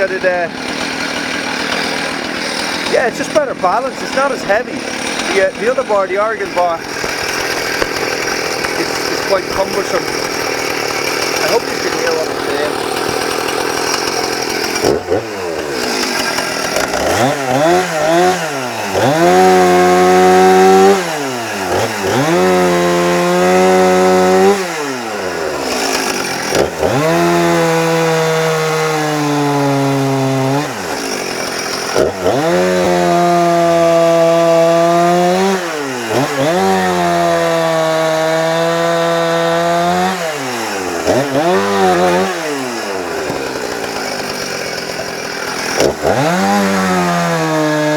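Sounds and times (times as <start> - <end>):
chainsaw revving and cutting wood: 0.0 - 47.9.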